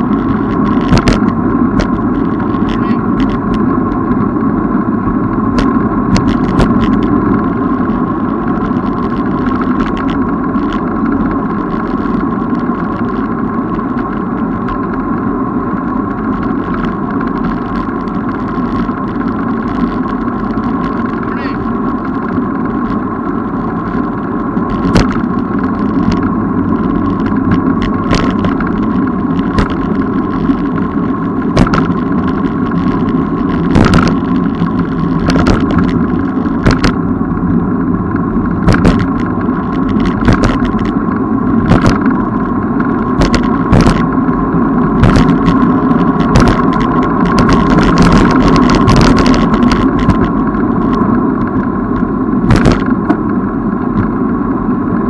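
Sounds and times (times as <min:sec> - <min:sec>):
bicycle clicks and rattles: 0:00.0 - 0:55.0
bicycle riding rumble: 0:00.0 - 0:55.0.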